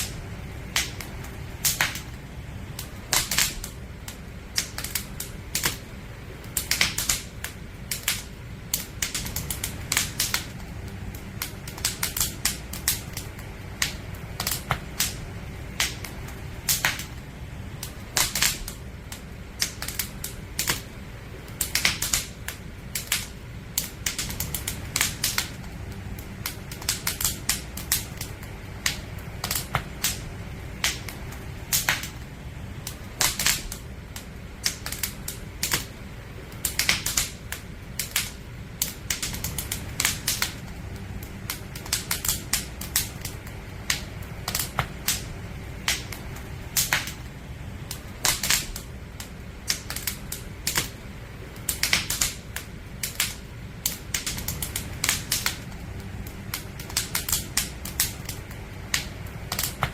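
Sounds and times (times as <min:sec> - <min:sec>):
campfire crackling: 0:00.0 - 0:59.9
steady low fire rumble: 0:00.0 - 0:59.9.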